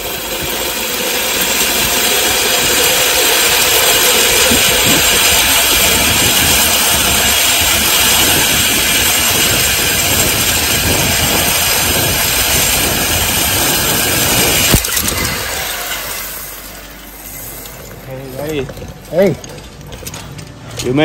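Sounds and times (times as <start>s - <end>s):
zip-line trolley whirring on cable: 0.0s - 18.5s.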